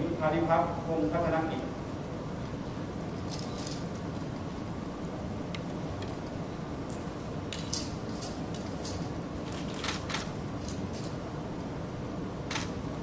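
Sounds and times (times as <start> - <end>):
hum of a large hall: 0.0 - 13.0.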